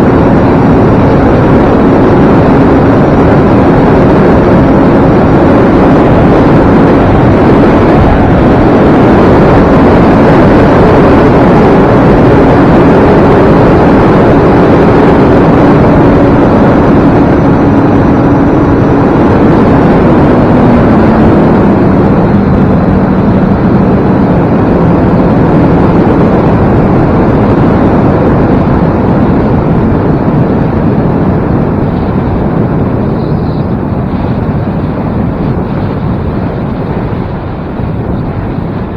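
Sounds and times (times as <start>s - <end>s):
rushing wind noise: 0.0s - 38.9s.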